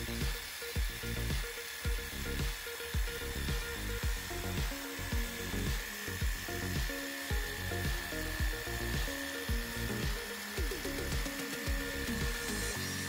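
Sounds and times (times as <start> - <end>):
background music with steady beat: 0.0 - 13.0
pressure washer spraying water: 0.0 - 13.0.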